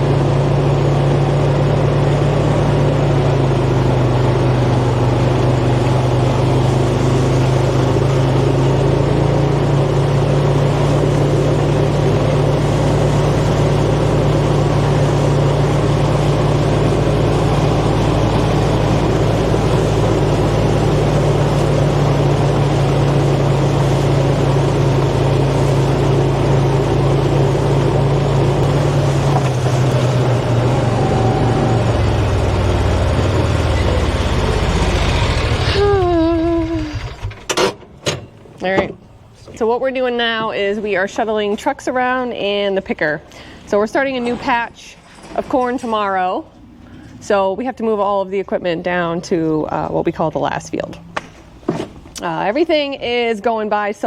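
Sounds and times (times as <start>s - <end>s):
farm vehicle engine humming: 0.0s - 54.0s.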